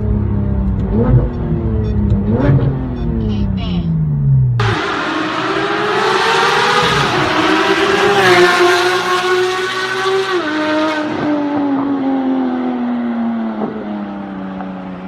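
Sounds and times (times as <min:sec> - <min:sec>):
sports car engine revving: 0:00.0 - 0:14.8.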